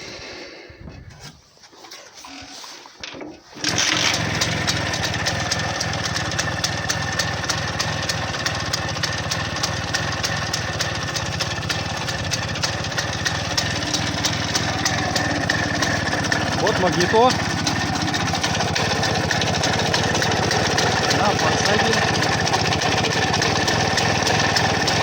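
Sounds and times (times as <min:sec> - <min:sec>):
scooter engine starting and idling: 0:03.5 - 0:25.0.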